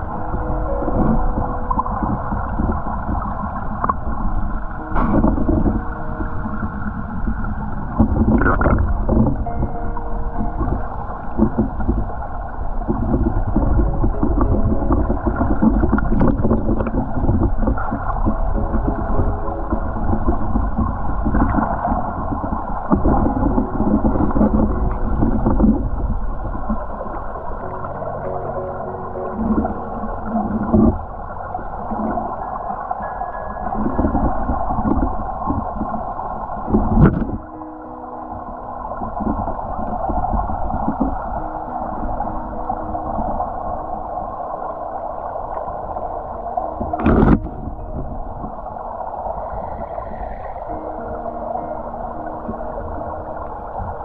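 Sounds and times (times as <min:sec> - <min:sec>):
muffled rushing water: 0:00.0 - 0:54.0
muffled underwater gurgling: 0:00.0 - 0:54.0.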